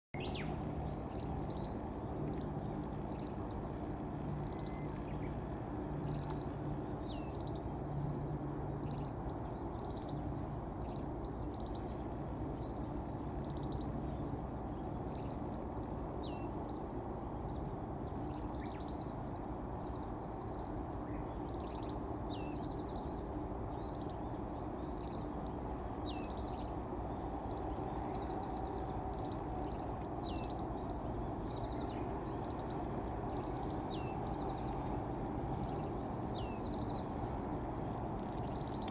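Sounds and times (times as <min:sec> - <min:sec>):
small birds chirping: 0:00.1 - 0:38.9
low background rumble: 0:00.2 - 0:38.9.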